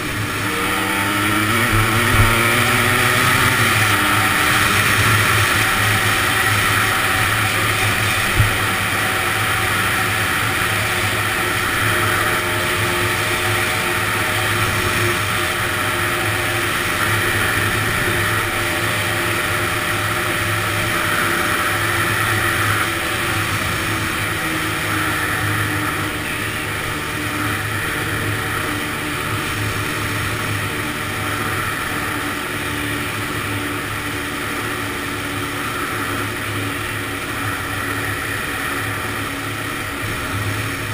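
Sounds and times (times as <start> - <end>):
two-stroke engine running: 0.0 - 40.9.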